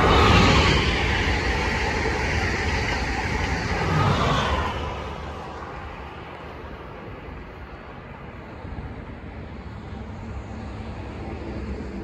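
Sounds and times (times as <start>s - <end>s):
train rumbling down track: 0.0s - 12.0s.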